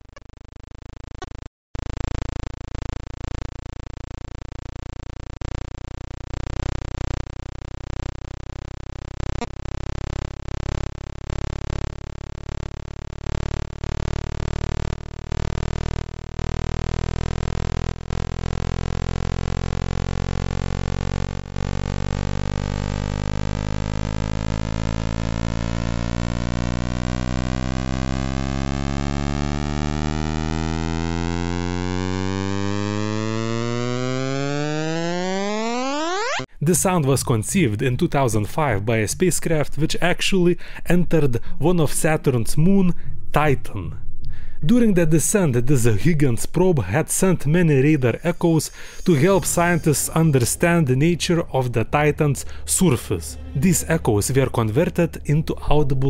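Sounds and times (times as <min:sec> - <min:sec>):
buzzing tone rising in pitch: 0:00.0 - 0:36.5, 0:46.5 - 0:56.0.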